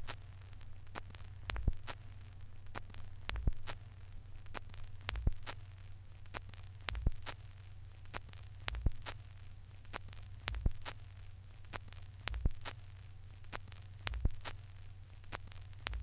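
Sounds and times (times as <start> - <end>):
steady low hum: 0.0 - 16.0
vinyl surface hiss: 0.0 - 16.0.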